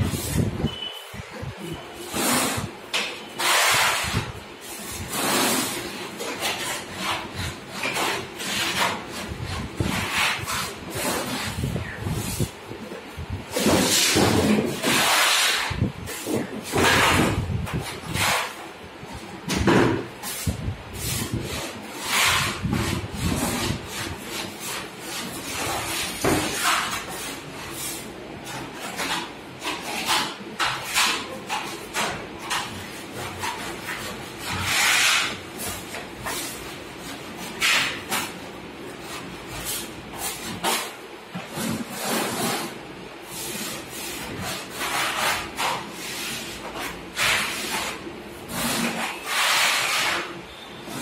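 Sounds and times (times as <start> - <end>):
putty knife scraping wall: 1.7 - 18.6, 19.2 - 51.0.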